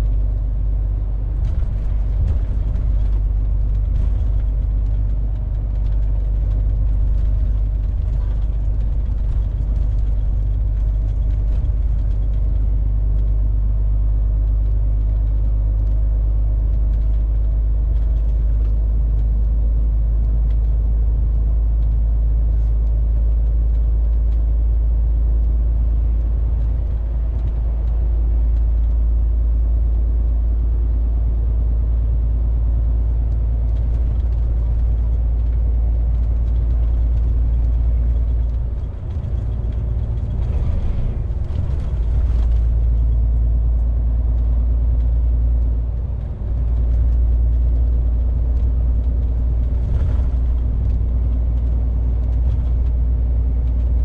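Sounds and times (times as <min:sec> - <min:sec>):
truck diesel engine drone: 0:00.0 - 0:54.0
tyre and road noise: 0:00.0 - 0:54.0.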